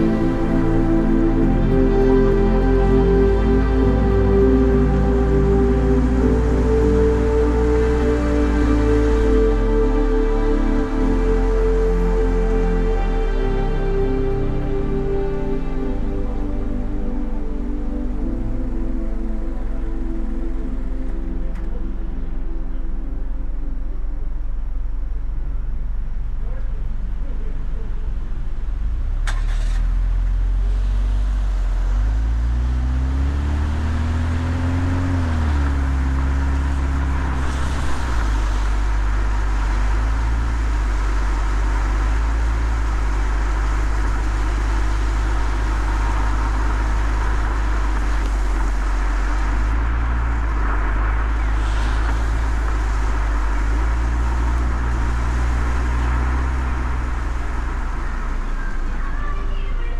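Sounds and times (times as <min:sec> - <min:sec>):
tyres hissing on wet road: 0:00.0 - 0:21.0, 0:28.3 - 0:59.9
car engine rumble: 0:00.0 - 0:59.9.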